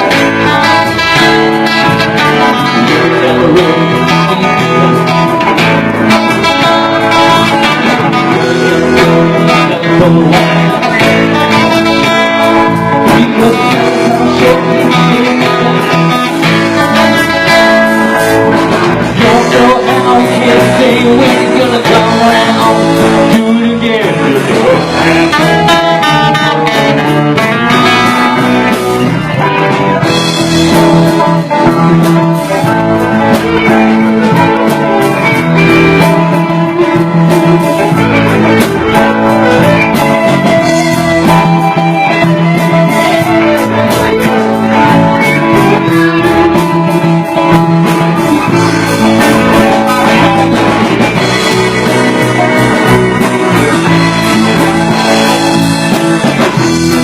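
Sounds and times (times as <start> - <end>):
guitar: 0.0 - 57.0
live band playing: 0.0 - 57.0.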